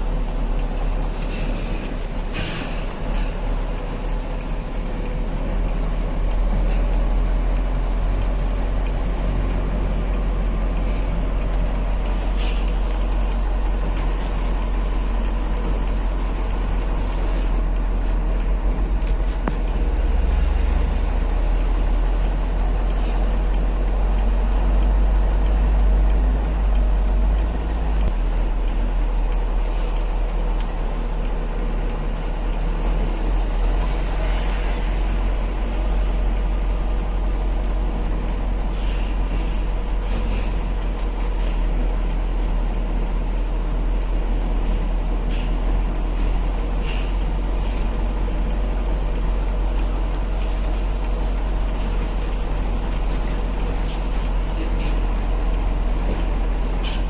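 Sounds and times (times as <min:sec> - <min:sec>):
heavy truck driving: 0:00.0 - 0:57.0.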